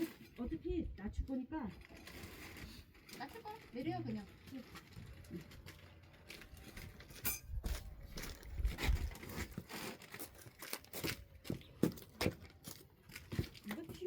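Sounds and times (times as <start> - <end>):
crinkling rustles: 1.6 - 14.0.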